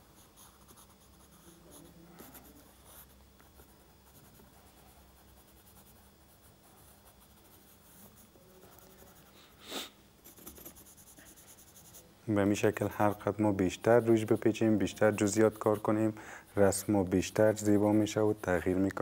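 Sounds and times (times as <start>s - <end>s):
pencil scratching on paper: 0.0s - 9.5s, 10.2s - 19.0s.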